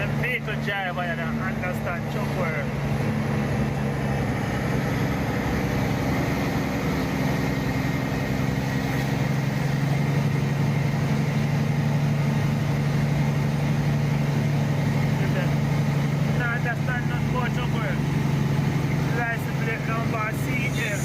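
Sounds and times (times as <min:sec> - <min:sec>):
truck engine drone: 0:00.0 - 0:21.0.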